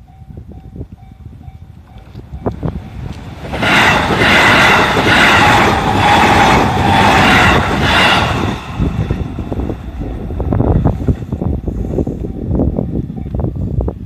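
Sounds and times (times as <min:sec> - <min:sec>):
electric train passing: 0:00.0 - 0:14.0
wind noise: 0:00.0 - 0:14.0.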